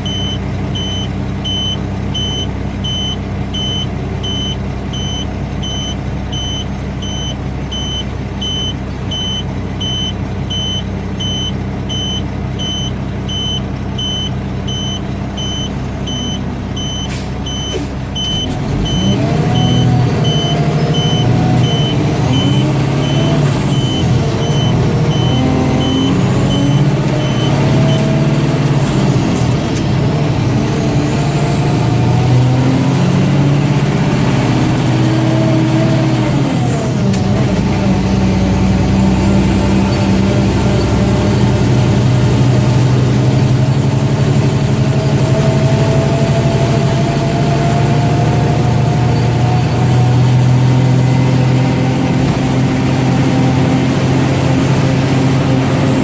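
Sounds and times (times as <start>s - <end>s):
truck backup alarm beeping: 0.0s - 37.1s, 37.9s - 56.0s
diesel engine running: 0.0s - 56.0s.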